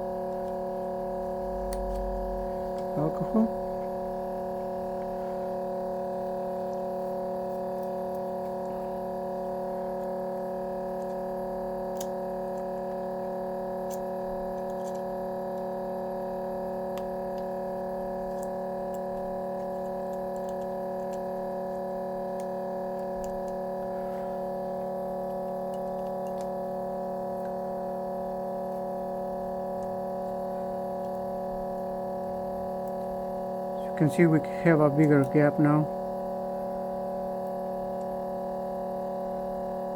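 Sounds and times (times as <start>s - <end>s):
steady multi-tone hum: 0.0s - 39.9s.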